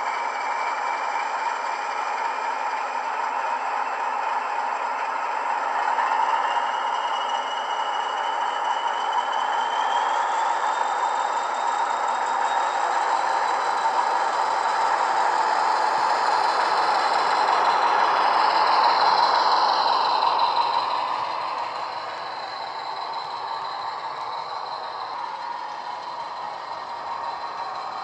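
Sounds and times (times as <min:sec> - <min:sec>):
model locomotive engine sound: 0:00.0 - 0:28.0
turbocharger whistle: 0:00.0 - 0:28.0.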